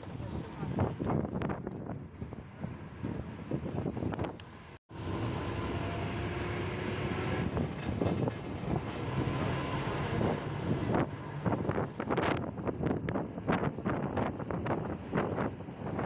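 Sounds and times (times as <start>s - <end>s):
gusty wind on microphone: 0.0s - 16.0s
wind and road noise: 0.0s - 16.0s
vehicle engine hum: 1.8s - 16.0s.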